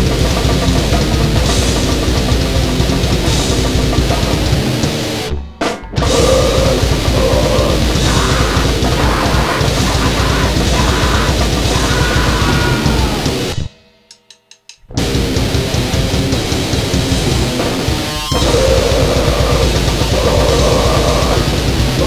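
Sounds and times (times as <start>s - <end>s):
loud grind band playing: 0.0s - 13.7s, 15.0s - 22.0s.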